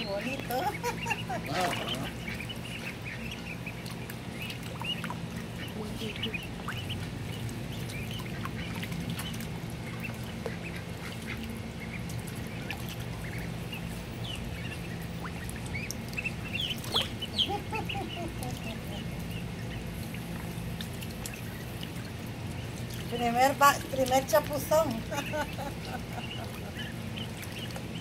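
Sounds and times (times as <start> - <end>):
ducklings peeping: 0.0 - 28.0
steady low hum: 0.0 - 28.0.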